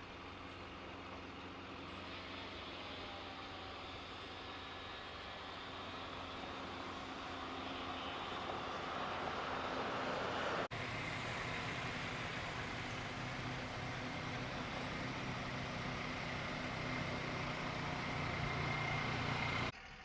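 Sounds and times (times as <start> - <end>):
steady engine hum: 0.0 - 20.0
vehicle engine running: 0.0 - 20.0.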